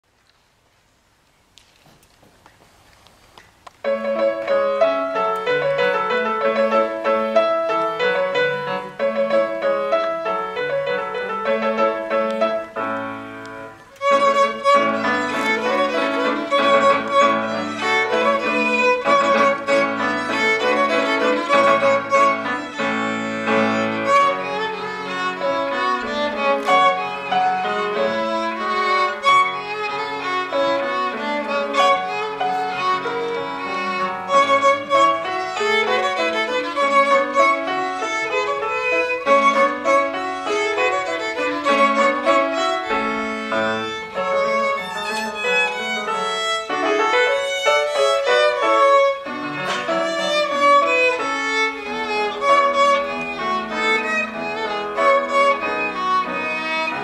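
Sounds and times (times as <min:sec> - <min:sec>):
bowed violin melody: 0:03.8 - 0:57.0
piano accompaniment: 0:03.8 - 0:57.0.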